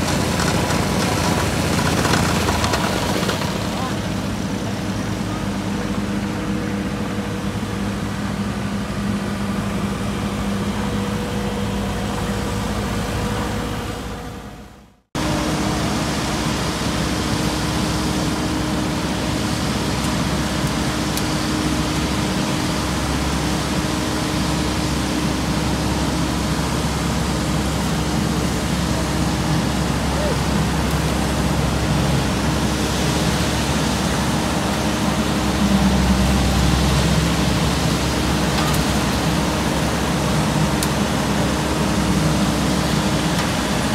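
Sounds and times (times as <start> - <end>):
heavy diesel engines droning: 0.0 - 43.9.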